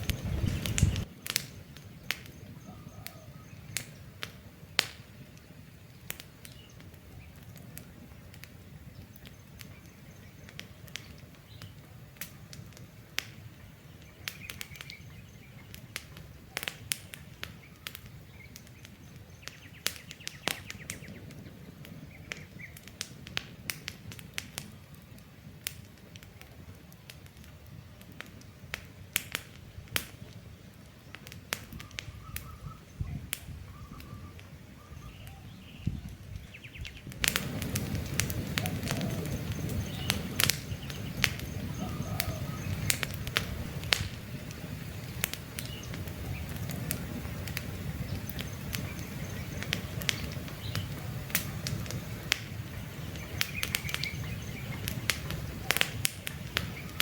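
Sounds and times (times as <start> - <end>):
birds chirping: 0.0 - 23.0, 30.2 - 57.0
campfire crackling and popping: 0.0 - 57.0
low rumble of flames: 0.0 - 57.0.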